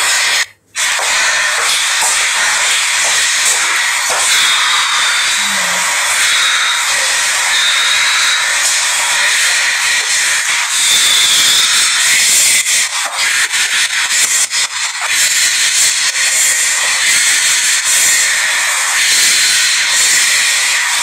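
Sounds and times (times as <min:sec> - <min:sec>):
loud steady hiss: 0:00.0 - 0:21.0.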